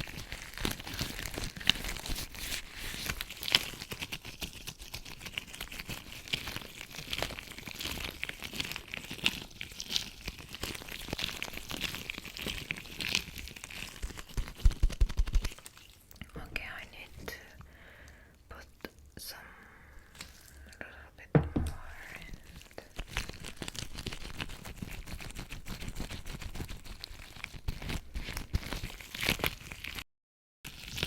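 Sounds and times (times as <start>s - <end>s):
latex gloves crinkling: 0.0s - 19.1s, 19.9s - 20.8s, 21.7s - 30.0s.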